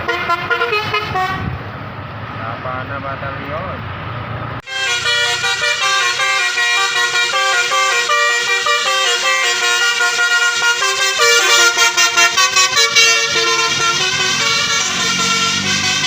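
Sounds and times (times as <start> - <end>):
musical horn melody: 0.0 - 1.6, 4.6 - 16.0.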